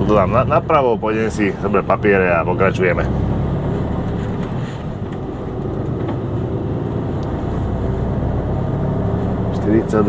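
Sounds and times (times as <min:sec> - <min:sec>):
lorry diesel engine rumble: 0:00.0 - 0:10.0.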